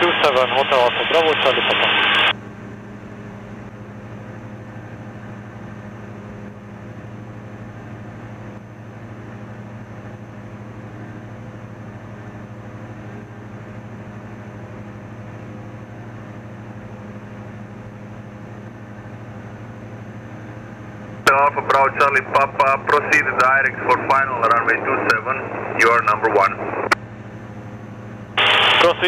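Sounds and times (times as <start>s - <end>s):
propeller plane engine droning: 0.0s - 29.0s.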